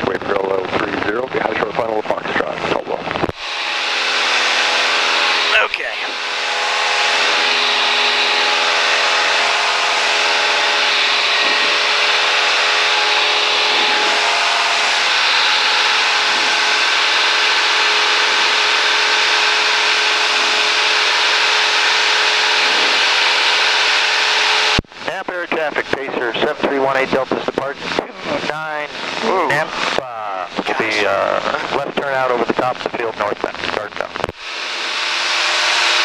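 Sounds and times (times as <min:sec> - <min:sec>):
airplane engine drone: 0:00.0 - 0:36.0.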